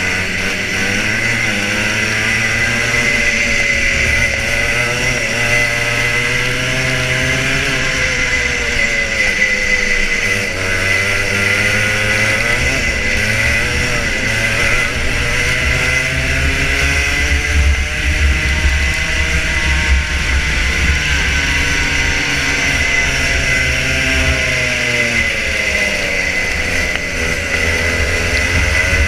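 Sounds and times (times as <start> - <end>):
kart engine revving: 0.0 - 29.0.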